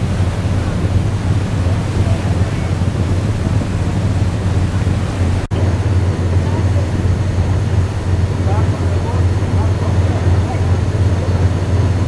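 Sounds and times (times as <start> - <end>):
boat engine drone: 0.0 - 12.0
water rushing past hull: 0.0 - 12.0
wind buffeting microphone: 0.0 - 12.0.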